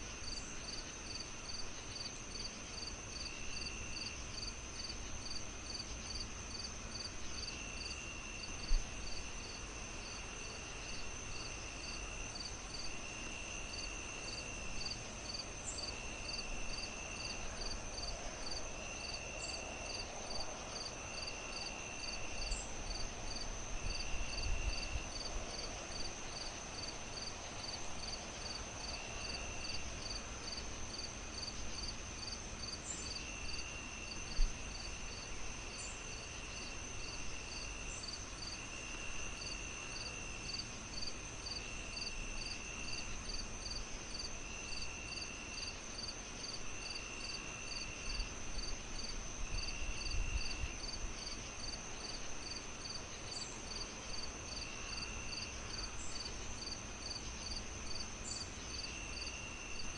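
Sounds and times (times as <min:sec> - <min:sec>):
insects chirping: 0:00.0 - 0:59.9
high insect trill: 0:00.1 - 0:59.9.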